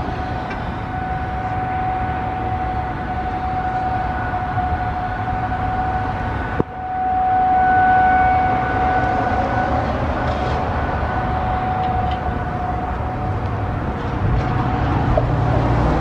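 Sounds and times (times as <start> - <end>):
low rumble: 0.0 - 16.0
warning siren steady tone: 0.0 - 16.0.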